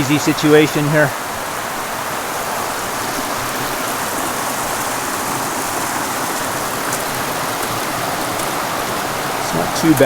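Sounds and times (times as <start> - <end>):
creek water rushing over rock: 0.0 - 10.0.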